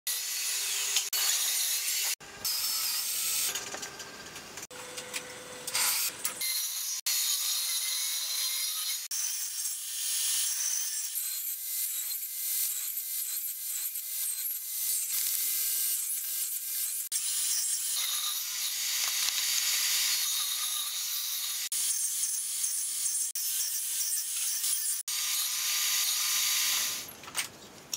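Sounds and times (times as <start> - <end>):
table saw cutting wood: 0.1 - 27.1.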